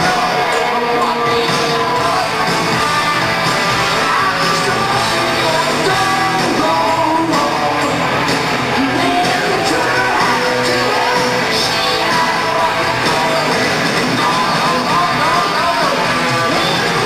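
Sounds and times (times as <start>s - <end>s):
bass guitar: 0.0s - 17.0s
drum kit: 0.0s - 17.0s
electric guitars: 0.0s - 17.0s
person singing: 0.0s - 17.0s.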